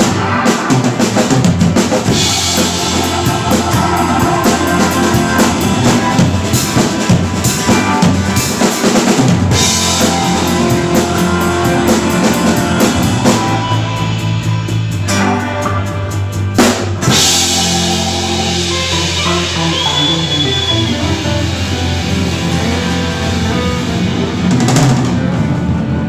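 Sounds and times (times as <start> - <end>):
loud hit with held chord: 0.0 - 25.8
band music with drum kit: 0.0 - 26.0.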